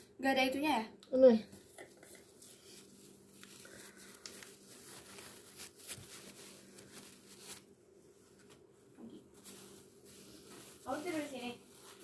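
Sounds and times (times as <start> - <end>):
low electrical hum: 0.0 - 12.0
soft clicks and rustles: 1.5 - 12.0.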